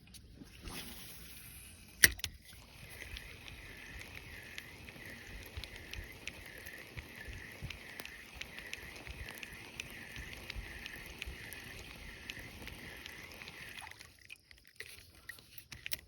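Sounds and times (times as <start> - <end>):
fishing reel whirring: 1.0 - 14.2.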